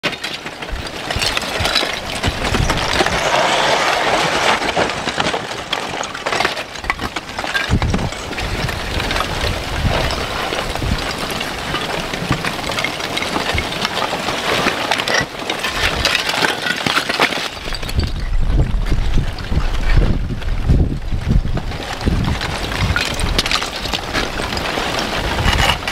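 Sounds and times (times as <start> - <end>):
lava crackling and clinking: 0.0 - 25.9
rock chunks tumbling: 0.0 - 25.9.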